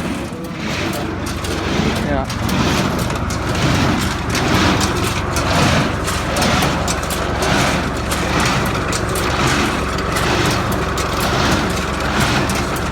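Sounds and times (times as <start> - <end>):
square baler clattering: 0.0 - 12.9.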